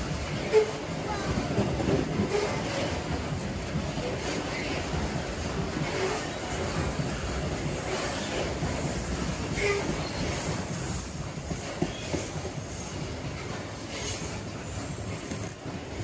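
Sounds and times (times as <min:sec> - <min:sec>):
train wheels rumbling on track: 0:00.0 - 0:16.0
train wheel squeal: 0:00.1 - 0:16.0.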